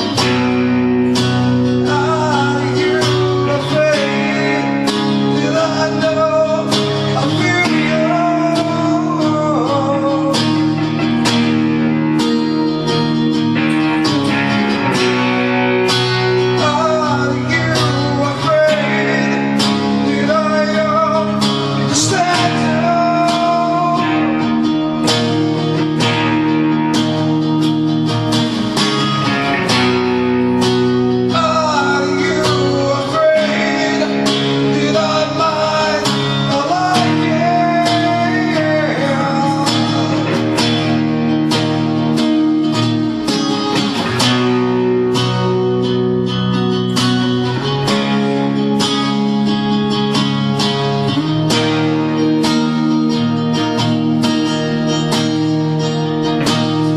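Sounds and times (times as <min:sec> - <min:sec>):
acoustic guitars strumming: 0:00.0 - 0:56.9.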